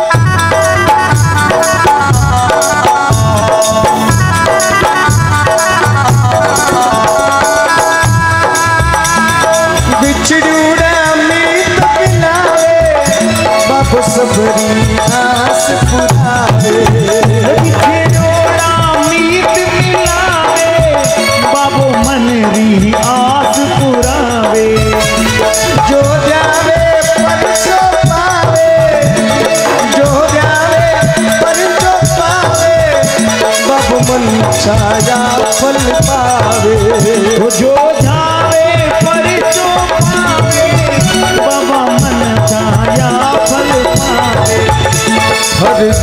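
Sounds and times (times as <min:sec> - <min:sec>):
dholak drum: 0:00.0 - 0:46.0
harmonium drone and melody: 0:00.0 - 0:46.0
keyboard: 0:00.0 - 0:46.0.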